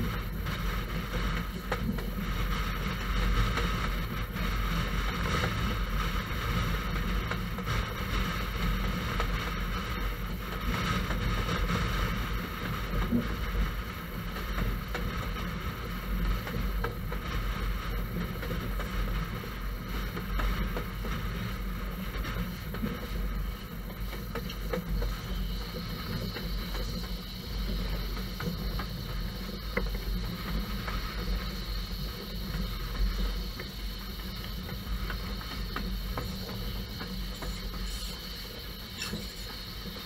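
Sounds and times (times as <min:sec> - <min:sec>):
railway carriage rumble: 0:00.0 - 0:40.0.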